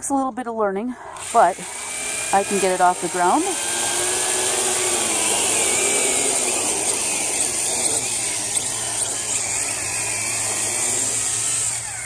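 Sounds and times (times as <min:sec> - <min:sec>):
toy quadcopter propellers whirring: 0:01.1 - 0:12.0.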